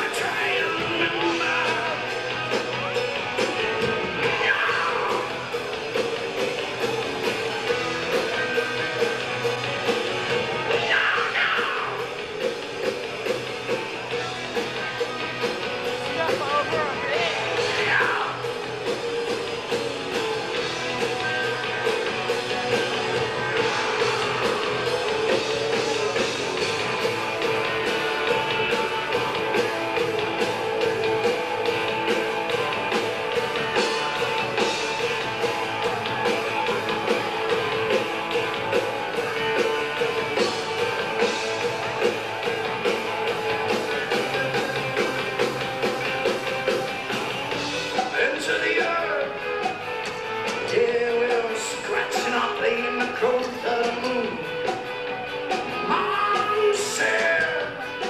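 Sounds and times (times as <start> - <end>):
bass guitar: 0.0 - 58.0
electric guitars: 0.0 - 58.0
steady drum beat: 0.0 - 58.0.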